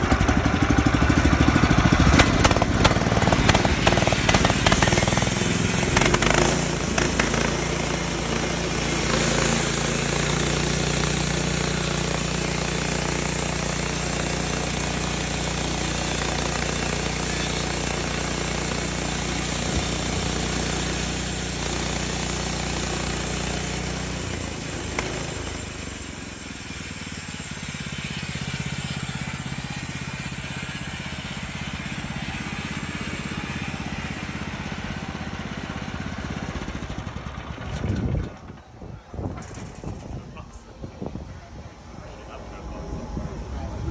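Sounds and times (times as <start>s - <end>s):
small petrol engine running: 0.0s - 43.9s.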